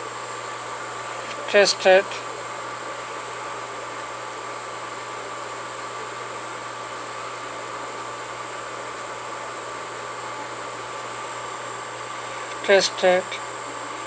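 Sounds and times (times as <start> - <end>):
faint steady whine: 0.0 - 14.0.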